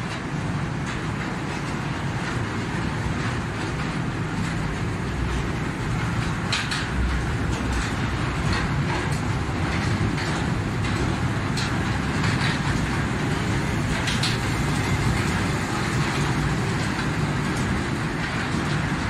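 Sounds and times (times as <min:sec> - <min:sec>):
kiddie train running noise: 0:00.0 - 0:19.0.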